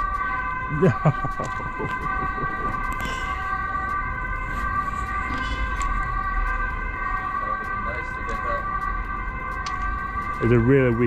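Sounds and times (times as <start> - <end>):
low rumble: 0.0 - 10.7
steady whine of held tones: 0.0 - 11.0.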